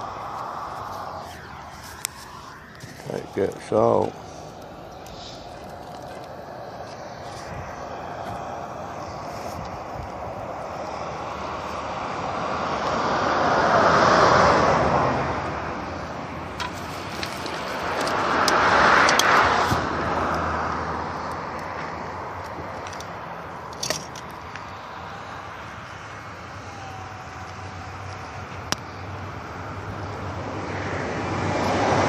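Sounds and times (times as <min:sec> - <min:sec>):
cars passing by: 0:00.0 - 0:32.0.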